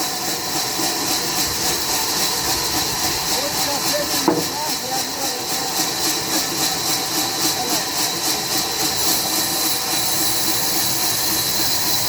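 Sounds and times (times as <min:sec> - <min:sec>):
saw cutting through log: 0:00.0 - 0:12.0.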